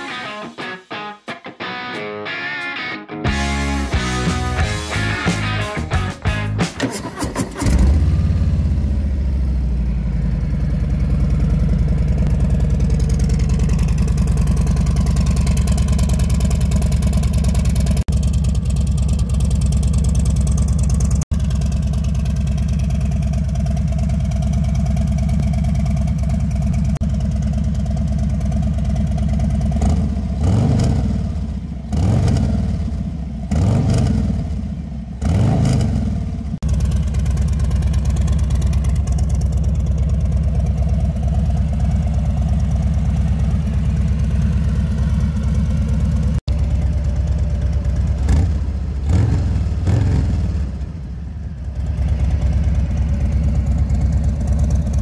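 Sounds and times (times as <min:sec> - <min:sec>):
motorcycle engine idling and revving: 0:03.4 - 0:55.0.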